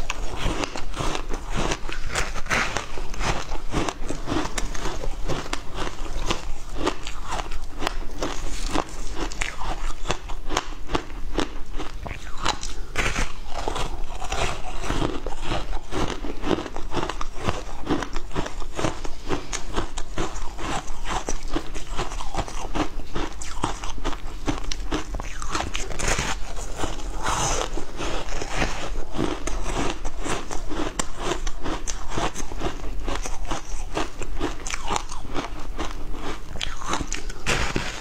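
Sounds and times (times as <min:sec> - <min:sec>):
ice crunching when chewed: 0:00.0 - 0:38.0.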